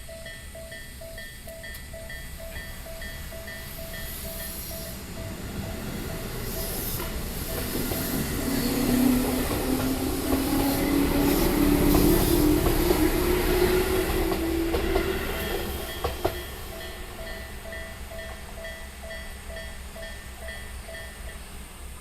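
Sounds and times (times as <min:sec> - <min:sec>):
level crossing alarm dinging: 0:00.0 - 0:21.4
approaching train rumble: 0:00.0 - 0:22.0
low steady train tone: 0:00.0 - 0:22.0.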